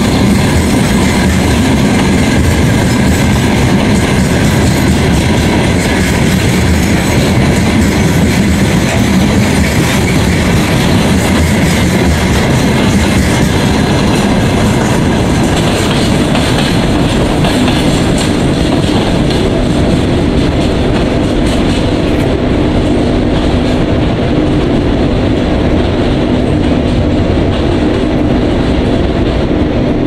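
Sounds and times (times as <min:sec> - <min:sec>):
clickety-clack of rail joints: 0:00.0 - 0:30.0
train wheels rumbling on rails: 0:00.0 - 0:30.0.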